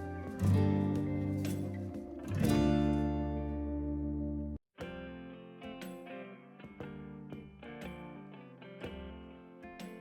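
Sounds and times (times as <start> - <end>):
plucked guitar notes: 0.0 - 9.6.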